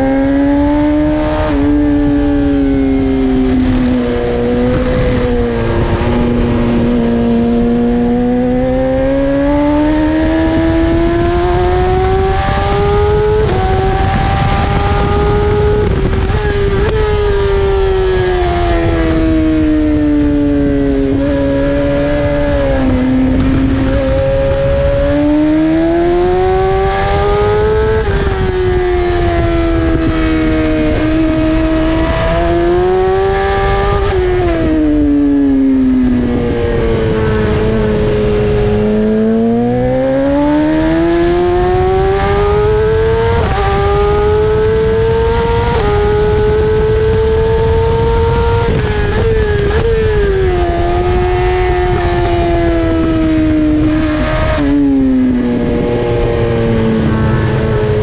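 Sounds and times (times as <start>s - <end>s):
motorcycle engine accelerating and braking: 0.0s - 58.0s.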